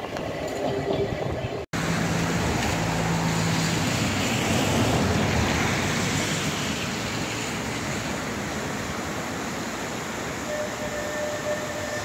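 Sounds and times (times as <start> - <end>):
electric tram running over viaduct: 0.0 - 12.0.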